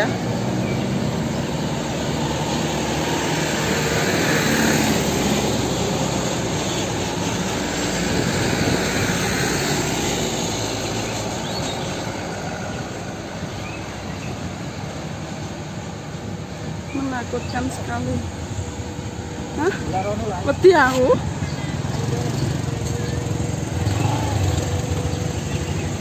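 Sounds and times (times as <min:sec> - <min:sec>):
heavy truck diesel engines: 0:00.0 - 0:26.0.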